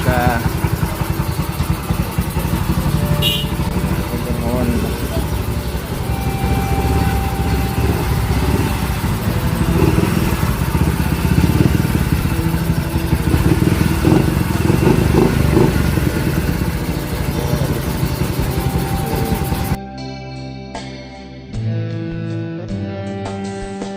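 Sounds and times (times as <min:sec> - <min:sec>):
scooter engine running: 0:00.0 - 0:19.8.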